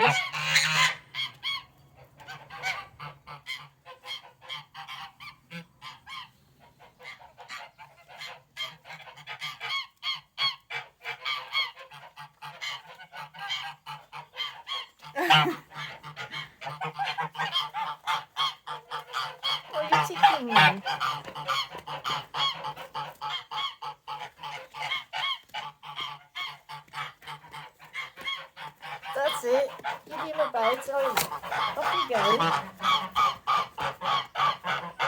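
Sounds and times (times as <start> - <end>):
geese honking and gabbling: 0.0 - 35.0.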